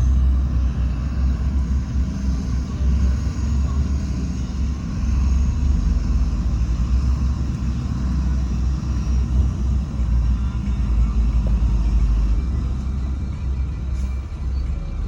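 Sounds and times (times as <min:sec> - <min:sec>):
heavy diesel machinery rumbling: 0:00.0 - 0:15.0.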